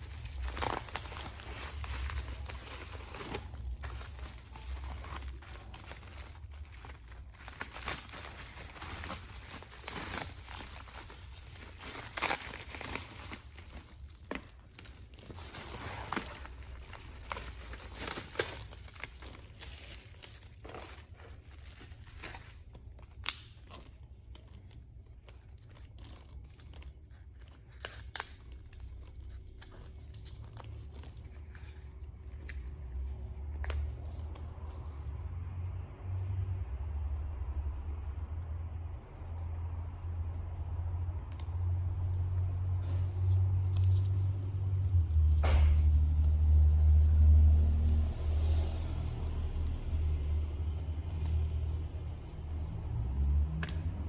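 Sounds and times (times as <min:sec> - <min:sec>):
package wrapping crinkling and tearing: 0:00.0 - 0:35.3, 0:37.8 - 0:47.0.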